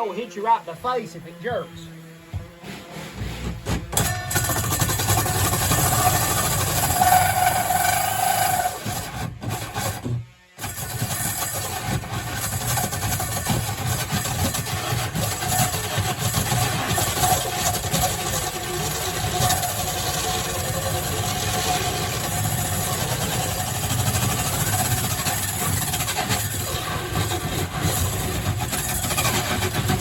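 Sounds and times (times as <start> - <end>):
electric drill cutting: 4.0 - 10.0, 10.6 - 30.0.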